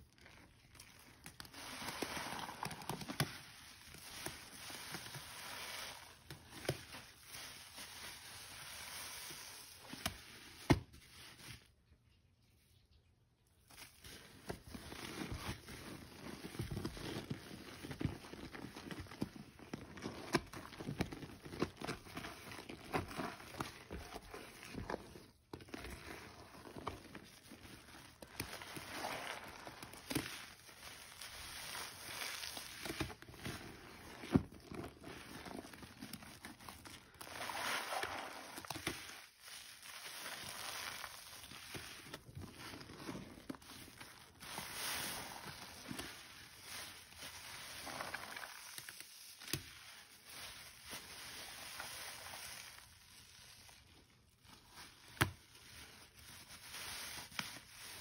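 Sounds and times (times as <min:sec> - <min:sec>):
soapy sponges squishing: 0:00.0 - 0:12.1, 0:13.6 - 0:58.0.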